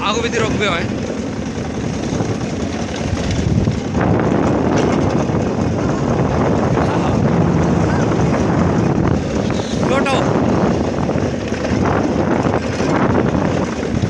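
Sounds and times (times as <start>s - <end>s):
cart motor running: 0.0s - 14.0s
wind buffeting microphone: 0.0s - 14.0s.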